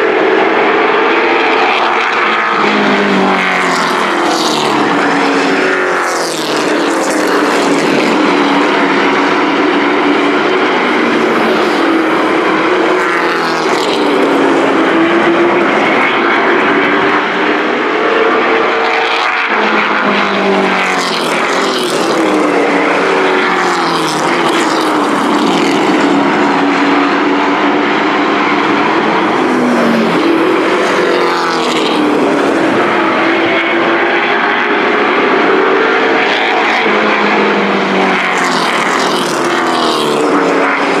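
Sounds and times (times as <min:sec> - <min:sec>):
race truck engines: 0:00.0 - 0:41.0.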